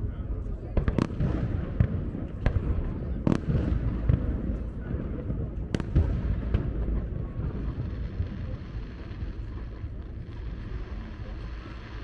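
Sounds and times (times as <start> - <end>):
low firework rumble: 0.0 - 12.0.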